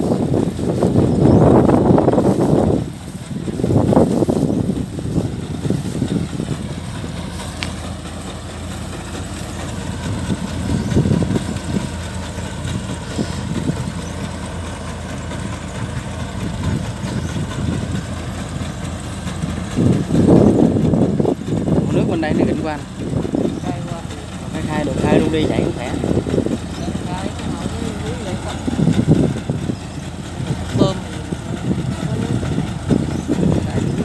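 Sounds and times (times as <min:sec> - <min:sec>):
diesel engines rumbling: 0:00.0 - 0:34.0.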